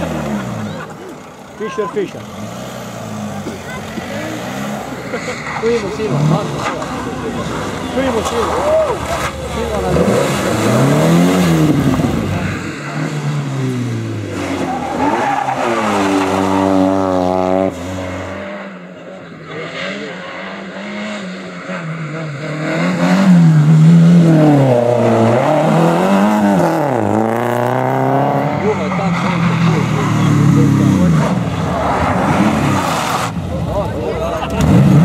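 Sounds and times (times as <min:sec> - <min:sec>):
rally car engines accelerating: 0:00.0 - 0:35.0.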